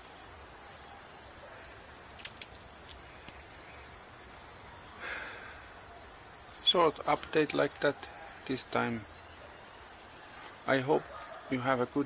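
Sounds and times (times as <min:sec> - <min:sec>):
insect chorus droning: 0:00.0 - 0:12.0.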